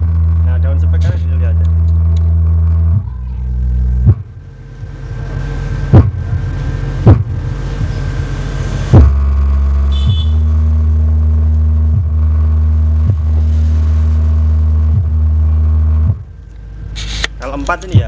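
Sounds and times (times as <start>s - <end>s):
deep bass note from woofer: 0.0s - 18.0s.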